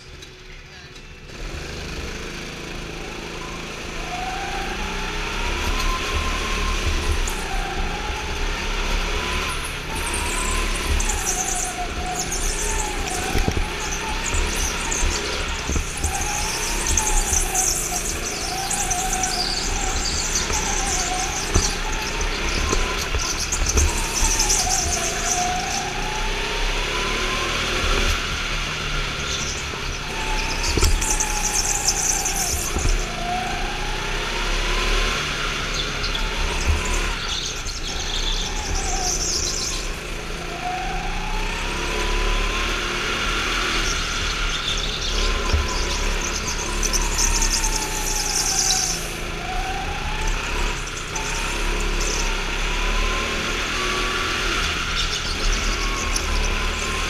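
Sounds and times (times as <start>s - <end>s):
go-kart engine running: 0.0s - 57.0s
tyres squealing: 3.2s - 41.7s, 42.7s - 57.0s.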